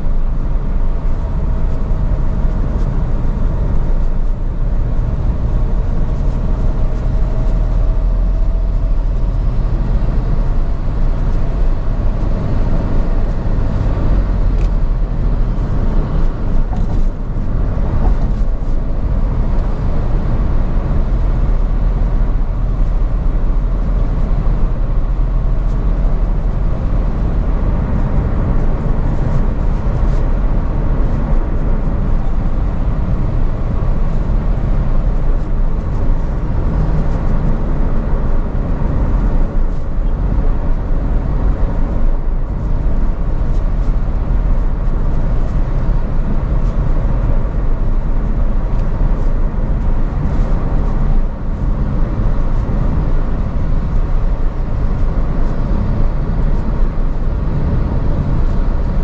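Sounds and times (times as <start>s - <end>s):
moving car rumble: 0.0s - 59.0s.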